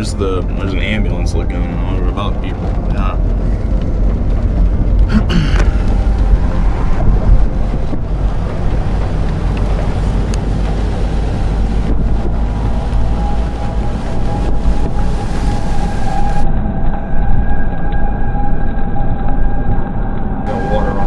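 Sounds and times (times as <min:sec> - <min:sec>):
car driving rumble: 0:00.0 - 0:16.7, 0:20.4 - 0:21.0
distant tornado siren: 0:00.0 - 0:21.0
wind buffeting microphone: 0:00.0 - 0:21.0.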